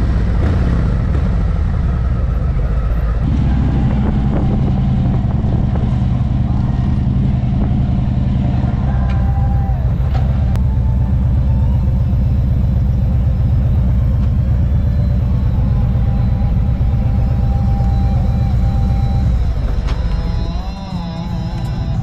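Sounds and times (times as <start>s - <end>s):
motorcycle engine deep rumble: 0.0s - 22.0s.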